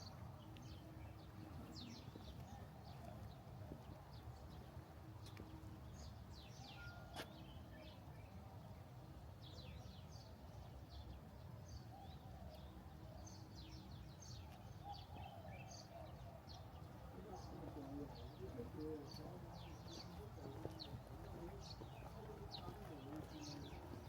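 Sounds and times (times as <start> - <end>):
low background murmur: 0.0 - 24.0
small birds chirping: 0.0 - 24.0.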